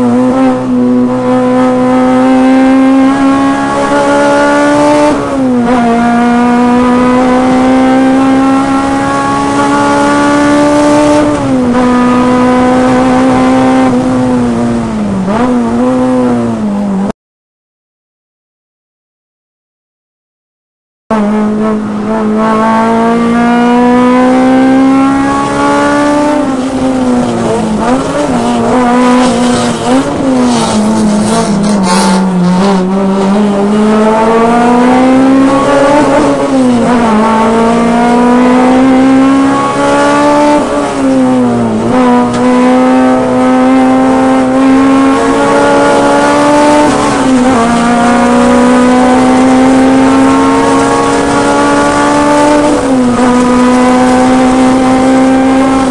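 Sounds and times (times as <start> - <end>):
race car engine revving: 0.0 - 17.1, 21.1 - 55.9.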